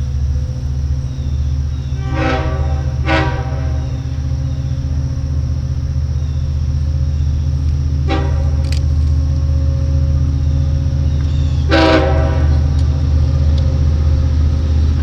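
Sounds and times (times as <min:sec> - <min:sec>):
diesel train engine rumble: 0:00.0 - 0:15.0
train horn blasts: 0:00.0 - 0:15.0.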